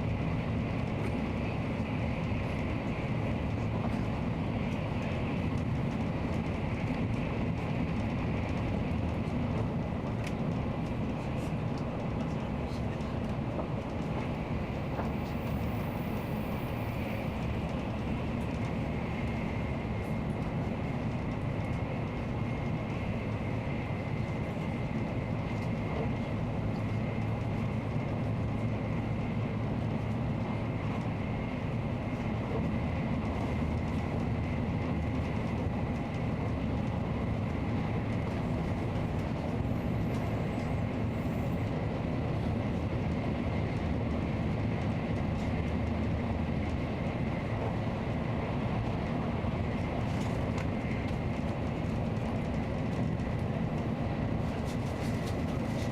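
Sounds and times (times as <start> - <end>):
train rumbling and rushing: 0.0 - 55.9.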